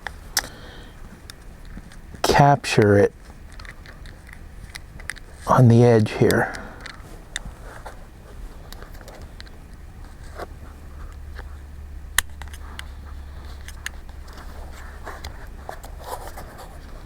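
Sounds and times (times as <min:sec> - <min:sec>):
small parts clicking and scraping: 0:00.0 - 0:11.5, 0:12.2 - 0:17.0
low steady hum: 0:00.0 - 0:17.0.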